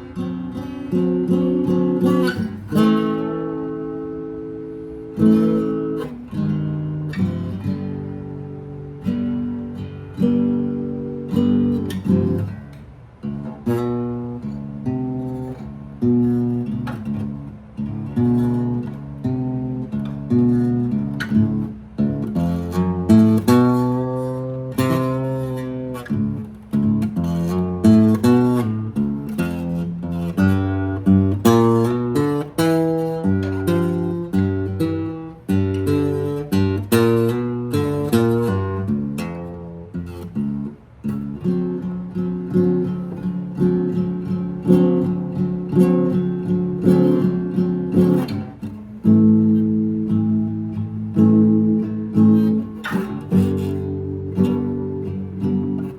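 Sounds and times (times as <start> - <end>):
guitar chords strummed: 0.0 - 55.9.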